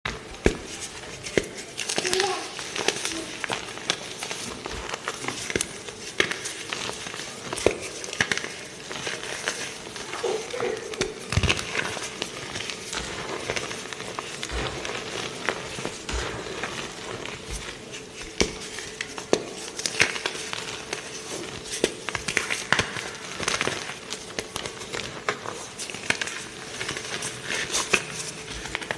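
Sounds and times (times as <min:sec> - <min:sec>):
cornstarch crunching by hand: 0:00.3 - 0:28.9.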